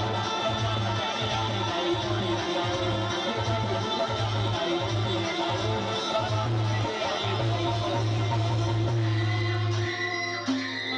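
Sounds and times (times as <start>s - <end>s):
folk band instrumental music: 0.0s - 10.9s.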